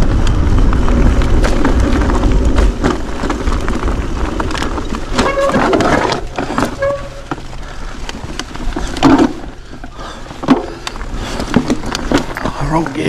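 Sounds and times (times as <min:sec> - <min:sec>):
bike rattling and knocking: 0:00.0 - 0:13.0
tyres crunching on stones: 0:00.0 - 0:13.0.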